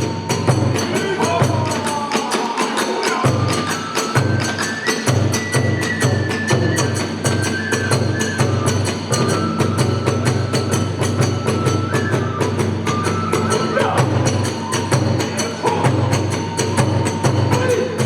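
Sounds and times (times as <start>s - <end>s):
bamboo flute high notes: 0.0s - 18.0s
drums beating: 0.0s - 18.0s
small hand cymbals: 0.0s - 18.0s.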